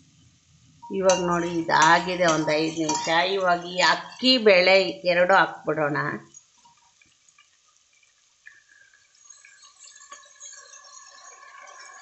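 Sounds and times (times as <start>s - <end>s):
hissing sizzle in hot oil: 0.0s - 12.0s.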